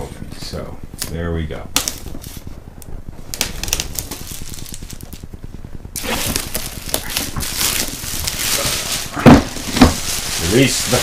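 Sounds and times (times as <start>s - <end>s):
plastic shrink wrap crinkling: 1.0s - 11.0s.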